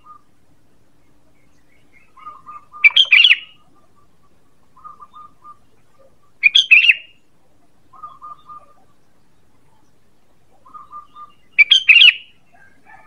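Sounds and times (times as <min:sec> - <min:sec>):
soft low bird notes: 0:00.0 - 0:12.9.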